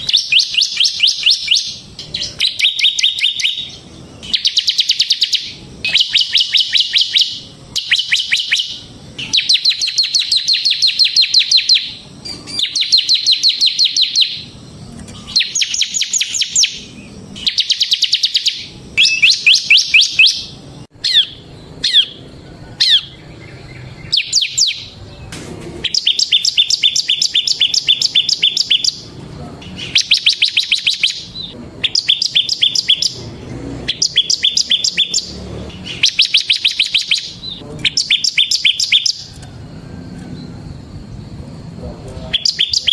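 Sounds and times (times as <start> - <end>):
down-slurred bird notes: 0.0 - 39.5, 42.2 - 42.9
bird singing buzzing trills: 0.0 - 42.9.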